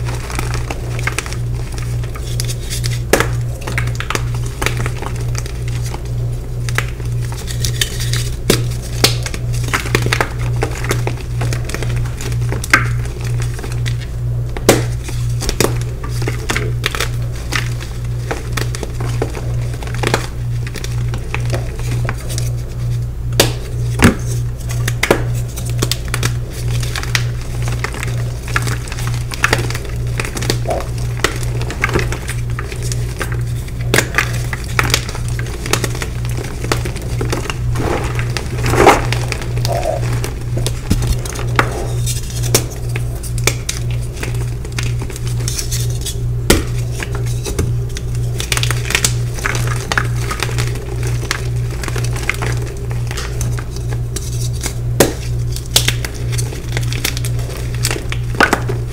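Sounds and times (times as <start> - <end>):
chalk crunching and crackling: 0.0 - 14.1, 14.8 - 58.9.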